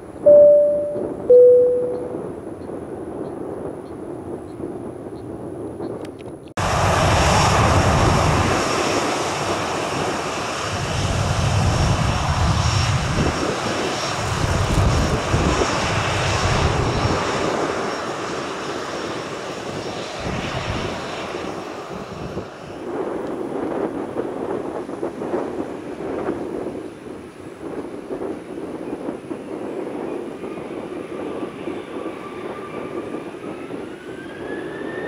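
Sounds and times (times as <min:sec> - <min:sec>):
jet engines at takeoff power: 0:02.4 - 0:35.0.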